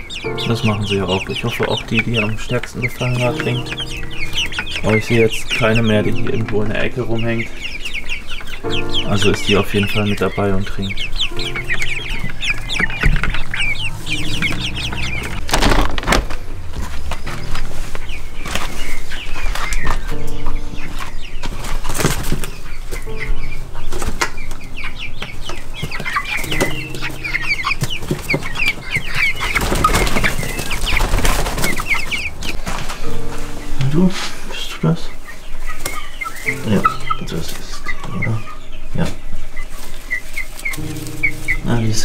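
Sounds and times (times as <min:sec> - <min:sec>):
young chickens cheeping and clucking: 0:00.0 - 0:42.0.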